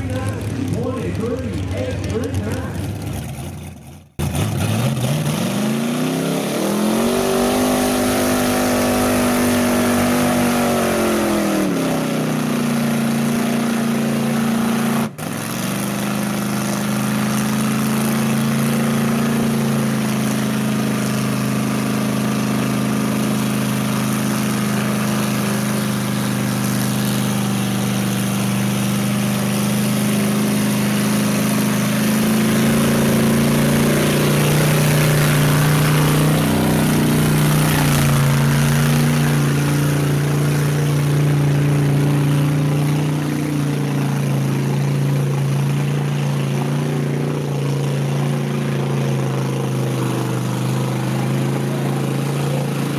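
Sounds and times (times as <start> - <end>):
engine running steadily: 0.0 - 52.9
truck engine revving: 0.0 - 52.9.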